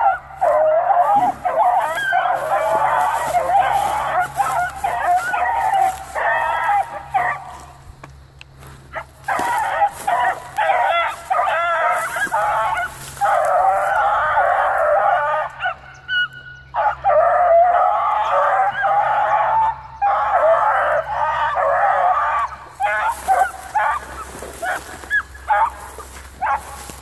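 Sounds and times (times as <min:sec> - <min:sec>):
pack of hounds baying: 0:00.0 - 0:27.0.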